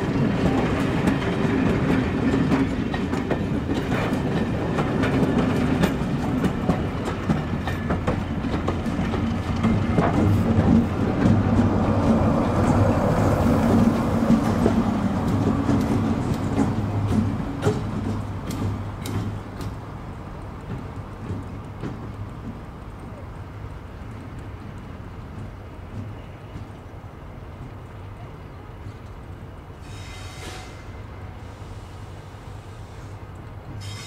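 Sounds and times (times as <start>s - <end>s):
wheels clicking over rail joints: 0.0s - 31.3s
diesel locomotive engine: 0.0s - 34.0s.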